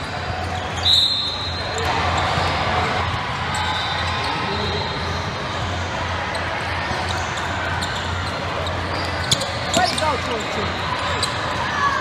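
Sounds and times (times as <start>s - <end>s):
gym hall noise: 0.0s - 12.0s.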